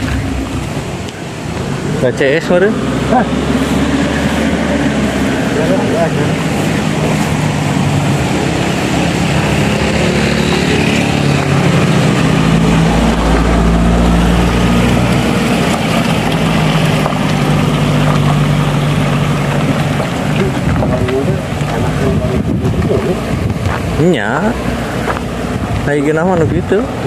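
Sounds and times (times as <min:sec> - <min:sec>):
deep rumble: 0:00.0 - 0:27.0
vehicle engine running: 0:00.0 - 0:27.0
wind noise on microphone: 0:03.4 - 0:27.0.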